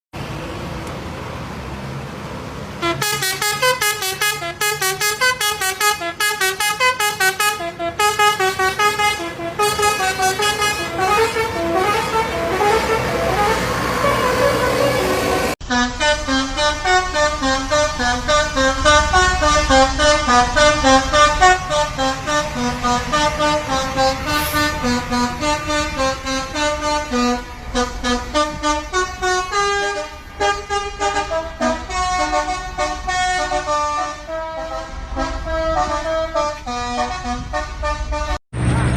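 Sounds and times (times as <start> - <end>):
bus engine rumble: 0.1 - 38.9
multi-tone bus air horn tune: 2.8 - 38.9.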